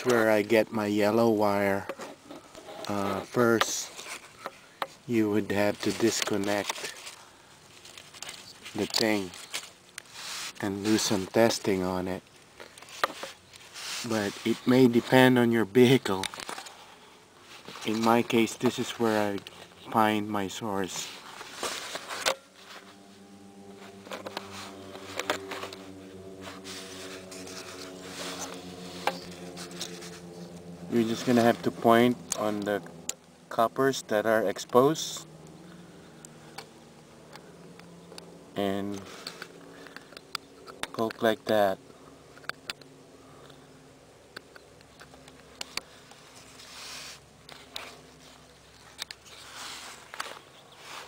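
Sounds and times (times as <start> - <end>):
rustling and handling noise: 0.0 - 43.7, 44.3 - 51.0
low buzzing hum: 0.0 - 51.0.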